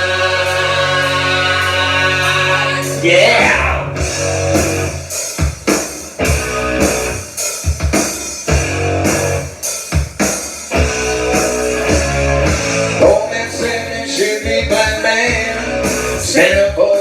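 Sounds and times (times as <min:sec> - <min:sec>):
electric guitar: 0:00.0 - 0:09.6, 0:10.7 - 0:17.0
bass guitar: 0:00.0 - 0:09.7, 0:10.7 - 0:17.0
drum kit rock rhythm: 0:00.0 - 0:17.0.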